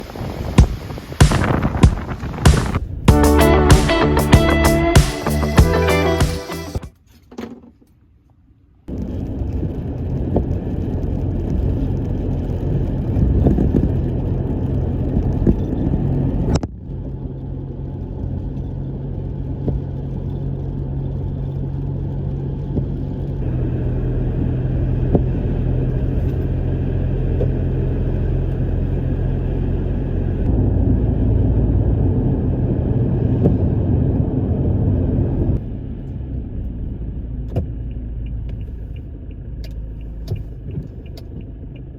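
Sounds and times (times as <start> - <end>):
truck engine and road rumble: 0.0 - 6.1, 6.8 - 41.9.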